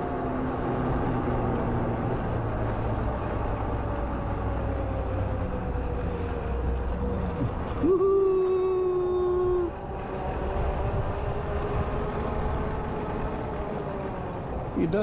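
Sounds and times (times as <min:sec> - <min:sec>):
wind and tyres rumbling: 0:00.0 - 0:15.0.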